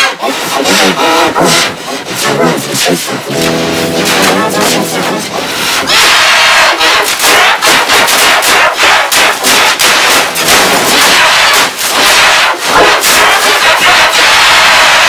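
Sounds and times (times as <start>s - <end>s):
harsh distorted crackling bursts: 2.4s - 15.0s.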